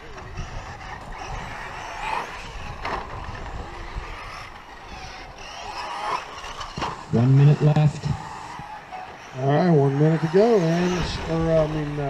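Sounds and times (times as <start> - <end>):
rc truck motors whining: 0.0 - 12.0.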